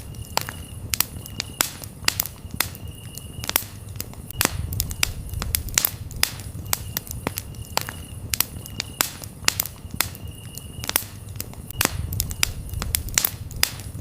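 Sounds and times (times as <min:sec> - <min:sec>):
campfire crackling: 0:00.0 - 0:14.0
cricket trills: 0:00.0 - 0:14.0.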